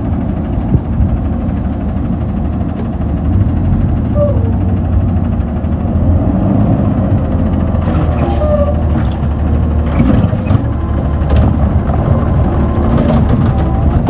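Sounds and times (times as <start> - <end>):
garbage truck engine running: 0.0 - 14.0.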